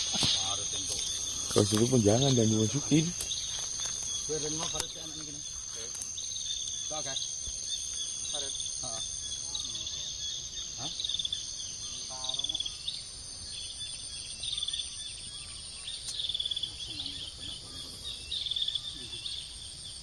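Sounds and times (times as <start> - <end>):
insect chirping trills: 0.0 - 20.0
insects whining: 0.0 - 20.0.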